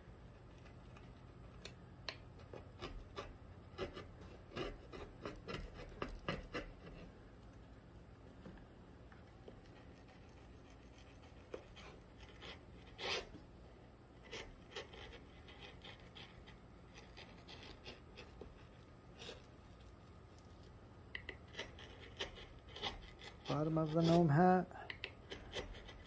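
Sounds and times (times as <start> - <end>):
carving tool scraping bark: 0.4 - 7.2, 9.5 - 13.4, 14.2 - 19.5, 21.2 - 26.0.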